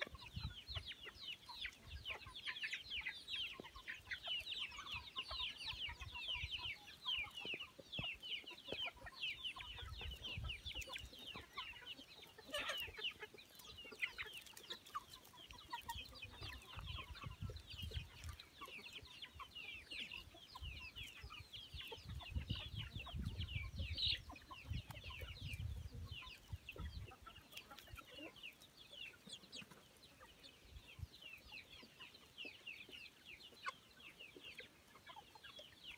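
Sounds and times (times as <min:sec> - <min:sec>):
chickens peeping and cheeping: 0:00.0 - 0:35.9.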